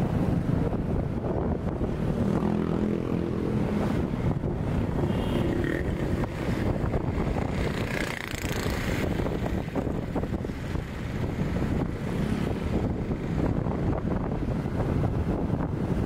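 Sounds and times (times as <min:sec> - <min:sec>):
city street traffic rumble: 0:00.0 - 0:16.0
motorcycles: 0:00.0 - 0:16.0
wind buffeting microphone: 0:00.0 - 0:16.0.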